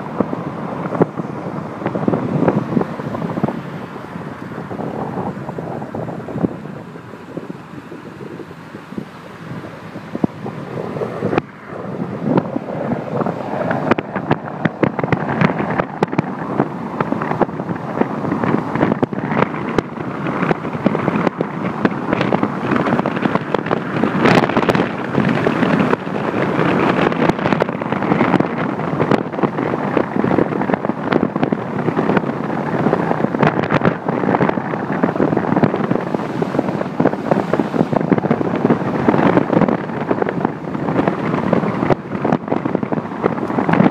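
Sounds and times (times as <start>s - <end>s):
tyre and road noise: 0.0s - 43.9s
wind buffeting microphone: 0.0s - 43.9s.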